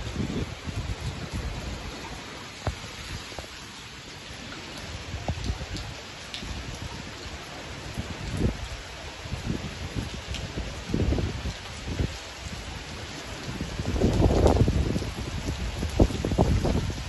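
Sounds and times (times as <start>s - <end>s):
heavy rain falling: 0.0s - 17.0s
raindrops ticking close by: 0.0s - 17.0s
wind rumbling on microphone: 0.0s - 17.0s.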